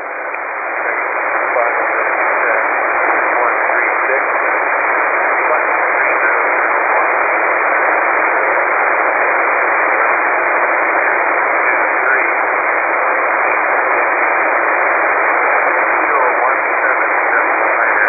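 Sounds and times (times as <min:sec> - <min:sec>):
radio receiver static hiss: 0:00.0 - 0:18.0.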